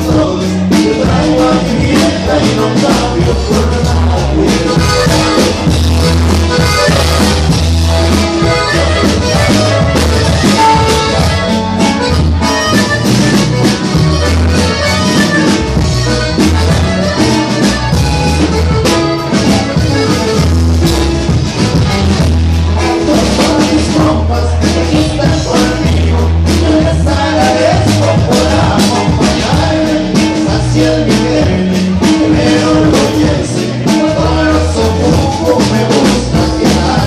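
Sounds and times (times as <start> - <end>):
accordion: 0.0 - 37.0
bass line: 0.0 - 37.0
drum kit: 0.0 - 37.0
live band music: 0.0 - 37.0.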